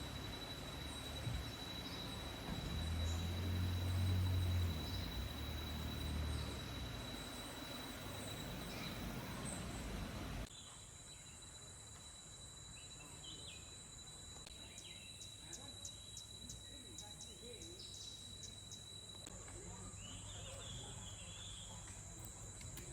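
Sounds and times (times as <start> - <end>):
high-pitched insect trill: 0.0 - 22.9.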